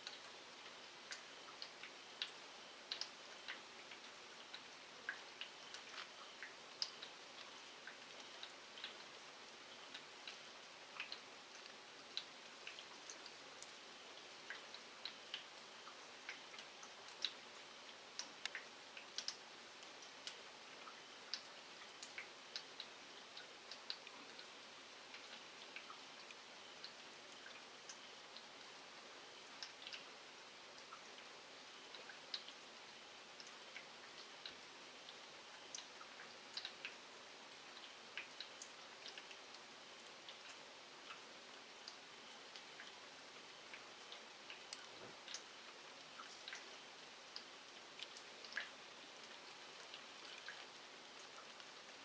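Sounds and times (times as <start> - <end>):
faint rain hiss: 0.0 - 52.0
raindrops ticking: 0.0 - 52.0.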